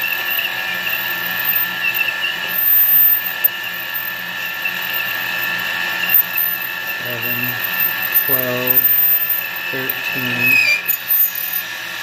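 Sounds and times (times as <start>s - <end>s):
lathe motor whine: 0.0s - 12.0s.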